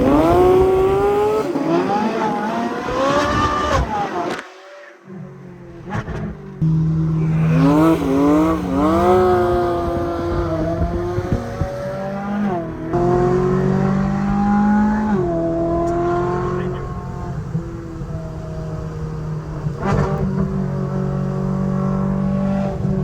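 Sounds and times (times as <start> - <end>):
car engine revving through gears: 0.0 - 23.0.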